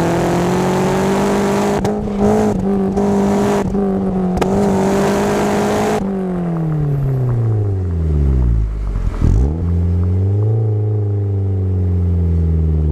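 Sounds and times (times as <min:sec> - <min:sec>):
car engine revs falling: 0:00.0 - 0:12.3.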